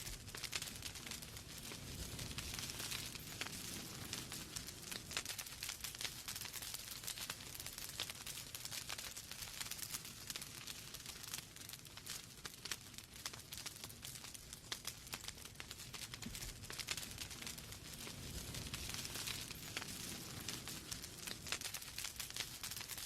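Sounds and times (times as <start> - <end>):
soft steady hiss: 0.0 - 23.0
wood fire crackling: 0.0 - 23.0.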